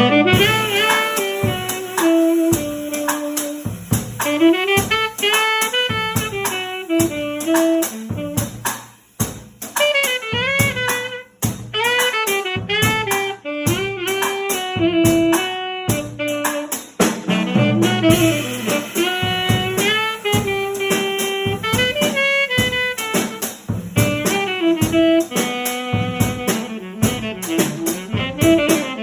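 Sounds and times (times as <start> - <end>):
saxophone melody: 0.0 - 8.7, 9.8 - 29.0
drum kit beat: 0.0 - 29.0.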